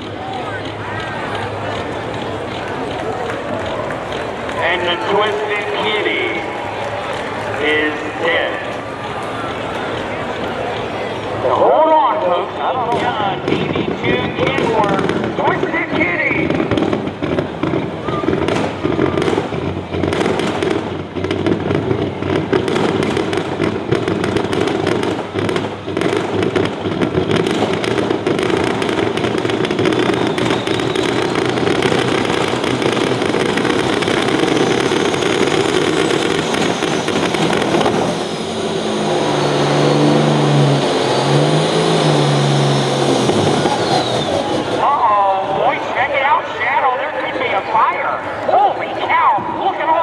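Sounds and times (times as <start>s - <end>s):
diesel truck engine running hard: 0.0s - 50.0s
exhaust crackling: 0.0s - 50.0s.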